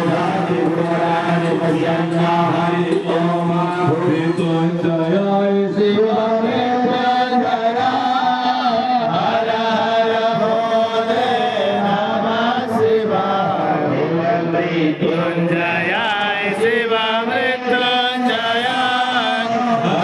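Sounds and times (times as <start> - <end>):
voices chanting mantras: 0.0 - 20.0.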